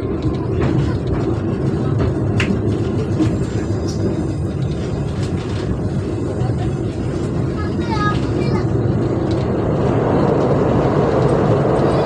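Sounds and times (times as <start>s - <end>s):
sharp clicks from train wheels: 0.0s - 12.0s
train rumbling inside carriage: 0.0s - 12.0s.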